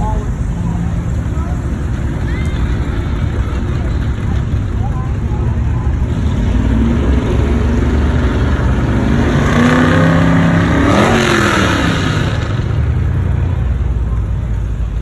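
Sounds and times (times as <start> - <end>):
low engine sound of cars: 0.0 - 15.0.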